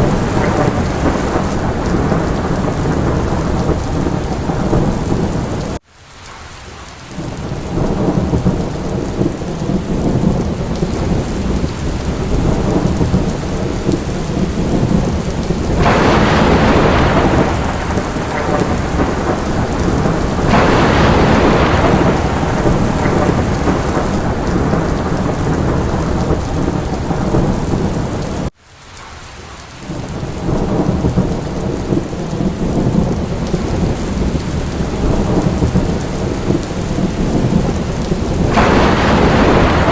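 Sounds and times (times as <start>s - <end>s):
thunder rumbling: 0.0s - 5.8s, 7.2s - 28.5s, 29.9s - 39.9s
heavy rain: 0.0s - 39.9s.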